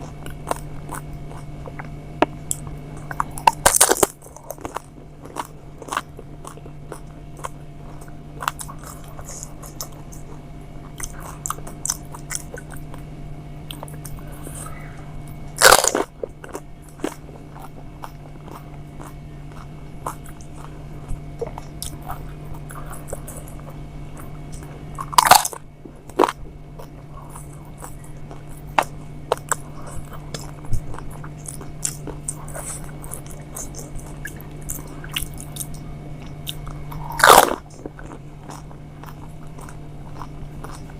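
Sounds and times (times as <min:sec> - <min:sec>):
crunching and chewing food: 0:00.0 - 0:40.9
steady low hum: 0:00.0 - 0:40.9.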